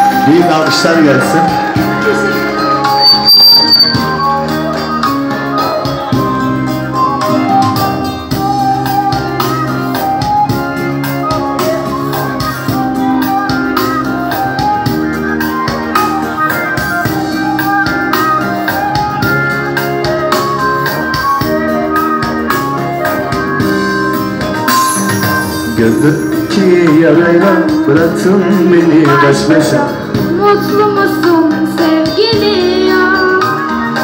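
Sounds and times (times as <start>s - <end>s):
organ-like keyboard chords and melody: 0.0s - 30.6s, 32.9s - 34.0s.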